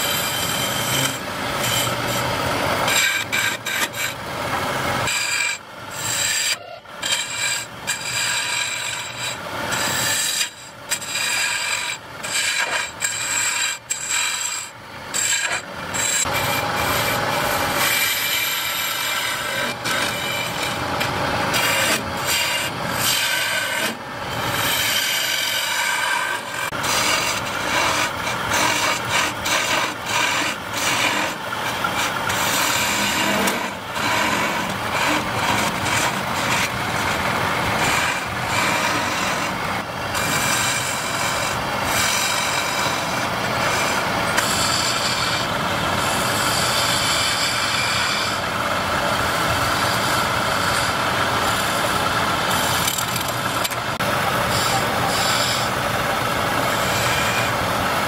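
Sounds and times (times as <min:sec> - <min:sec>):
gouge scraping wood on lathe: 0:00.0 - 0:58.0
lathe whining: 0:00.0 - 0:58.0.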